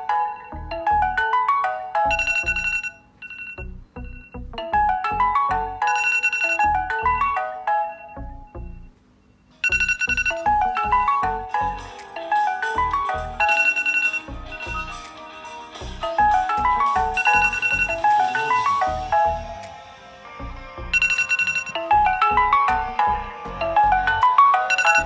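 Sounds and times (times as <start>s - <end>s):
ringtone melody: 0.0s - 25.0s.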